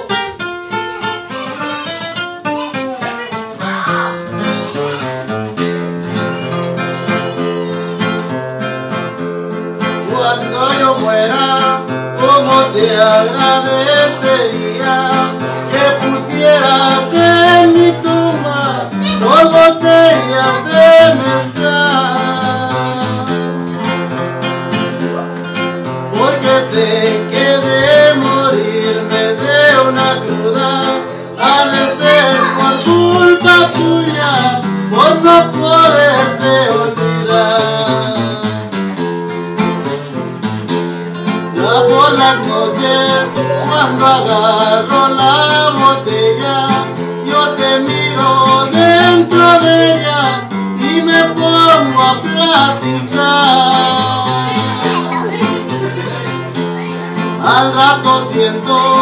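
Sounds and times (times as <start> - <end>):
man singing: 0.0 - 8.2, 9.5 - 59.0
classical guitar strummed: 0.0 - 59.0.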